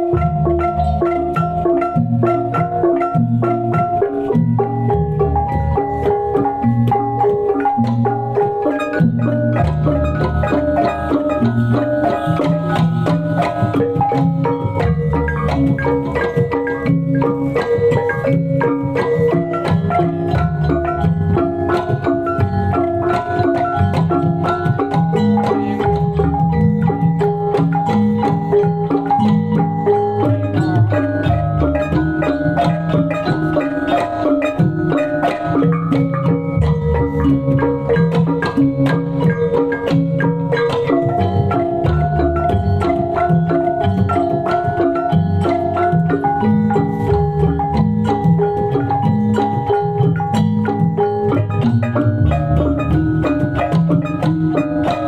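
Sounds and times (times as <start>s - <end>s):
metallophones ringing melody: 0.0s - 55.0s
steady drumming: 0.0s - 55.0s.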